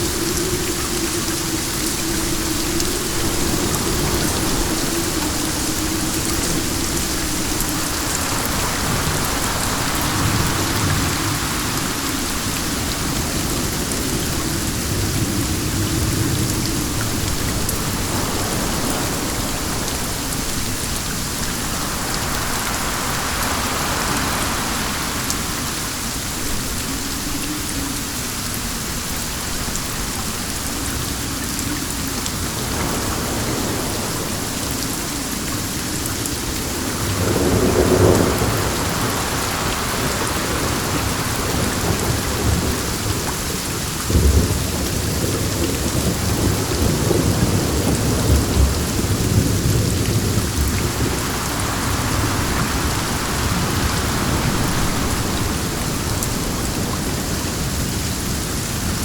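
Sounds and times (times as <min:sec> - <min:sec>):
steady rain: 0:00.0 - 0:59.0
wind: 0:00.0 - 0:59.0.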